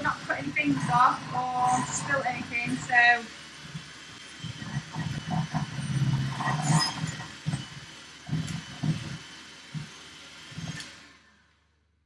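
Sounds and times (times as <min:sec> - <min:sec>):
electric hand mixer running: 0:00.0 - 0:11.4.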